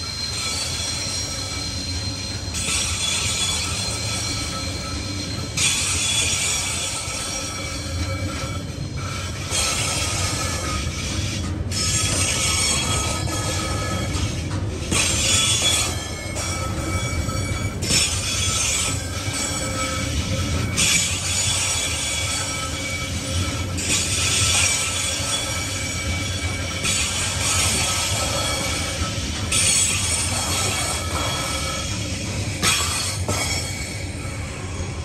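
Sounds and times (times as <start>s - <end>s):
high-pitched wheel squeal: 0.0s - 35.0s
steel wheels rumbling on rail: 0.0s - 35.0s.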